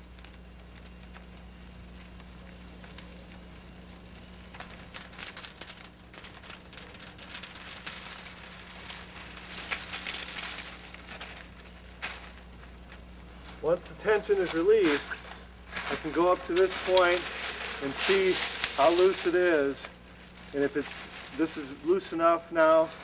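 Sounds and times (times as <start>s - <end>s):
wood cracking and splintering: 0.0s - 21.5s.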